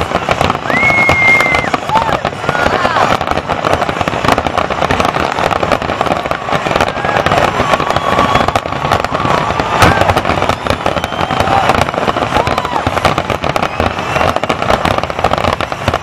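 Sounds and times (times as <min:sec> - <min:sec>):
fireworks bursting and crackling: 0:00.0 - 0:16.0
heavy firework boom: 0:00.0 - 0:16.0.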